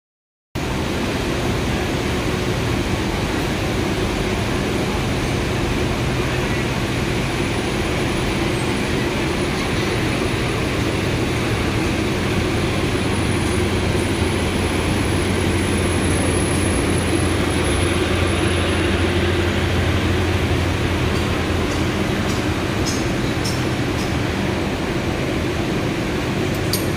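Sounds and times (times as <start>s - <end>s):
diesel engine running: 0.6s - 26.9s.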